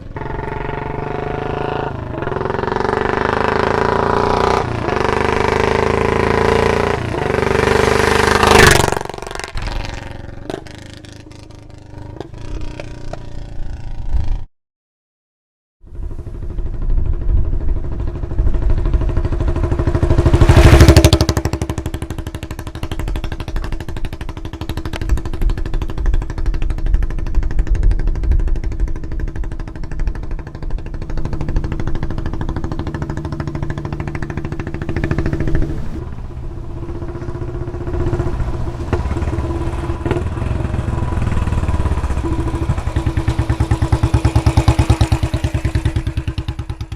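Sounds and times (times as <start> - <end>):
motorcycle engine exhaust pulses: 0.0 - 14.5, 15.9 - 46.9.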